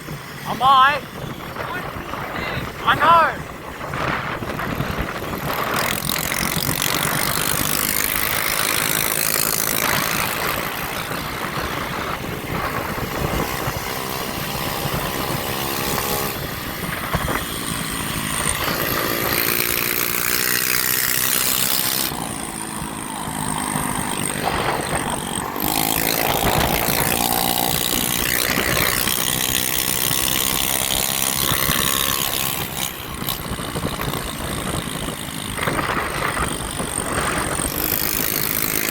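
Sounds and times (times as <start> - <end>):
motorcycle engines revving: 0.0 - 38.9
wind and road noise: 0.0 - 38.9.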